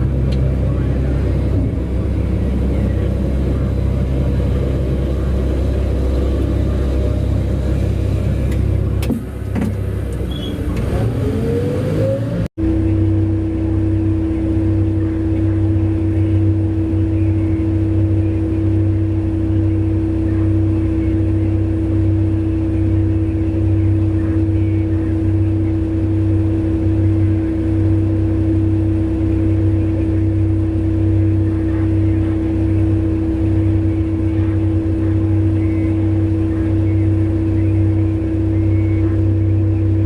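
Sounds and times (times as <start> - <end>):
diesel truck engine under load: 0.0 - 40.0
rising engine whine: 0.0 - 40.0.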